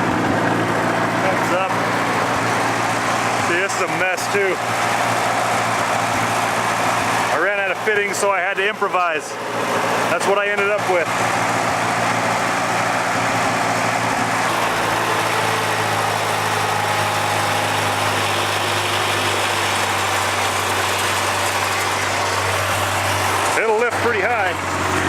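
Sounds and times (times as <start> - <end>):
high steady whine: 0.0 - 25.0
tractor engine running: 0.0 - 25.0.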